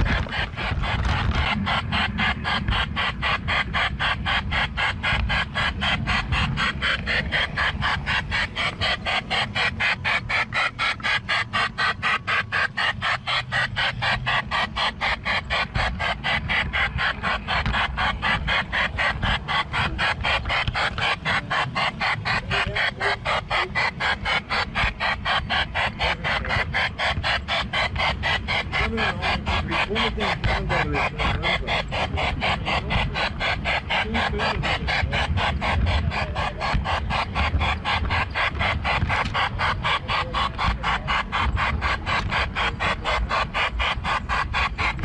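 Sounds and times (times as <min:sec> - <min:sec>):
toy train clicking on track: 0:00.0 - 0:45.0
train low rumble: 0:00.0 - 0:45.0.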